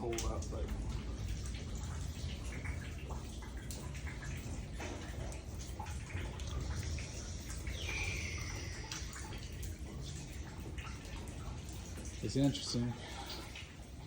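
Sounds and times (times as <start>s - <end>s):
rainwater dripping and splashing: 0.0s - 14.0s.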